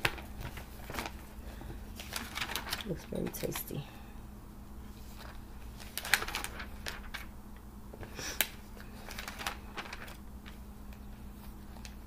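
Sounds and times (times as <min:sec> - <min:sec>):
magazine pages rustling: 0:00.0 - 0:03.8, 0:04.9 - 0:07.3, 0:07.9 - 0:12.0.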